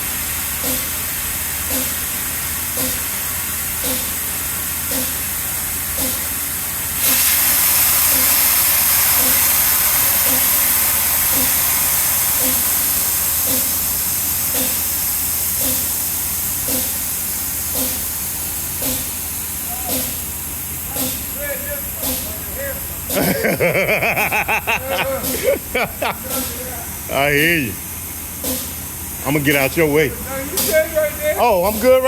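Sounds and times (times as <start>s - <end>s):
compressed air hissing: 0.2s - 32.0s.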